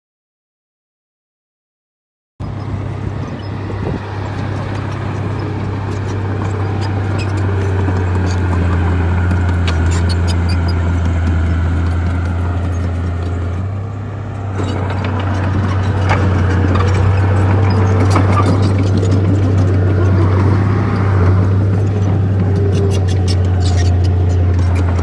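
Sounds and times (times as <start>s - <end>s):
bulldozer diesel engine running: 2.4s - 25.0s
metallic clicks and clanks of tracks: 2.5s - 13.8s, 14.4s - 25.0s.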